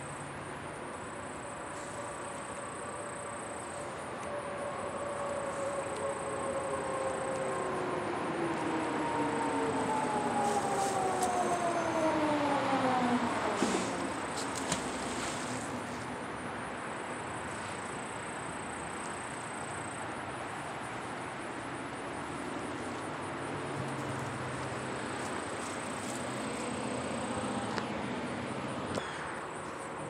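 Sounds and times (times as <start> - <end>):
high insect trill: 0.0 - 30.0
outdoor background hiss: 0.0 - 30.0.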